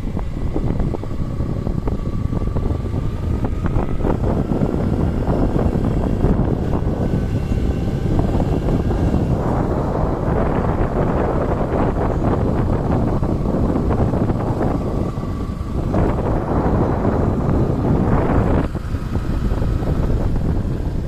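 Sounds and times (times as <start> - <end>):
vehicle engine running: 0.0 - 21.0
wind rushing over microphone: 0.0 - 21.0.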